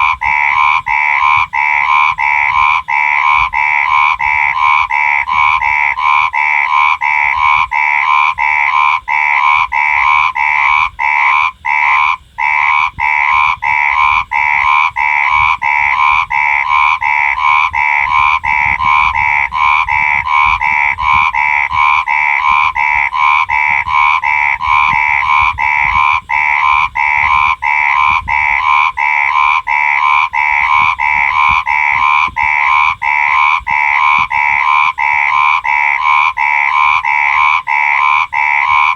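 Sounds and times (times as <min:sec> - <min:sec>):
frog croaking: 0:00.0 - 0:38.9.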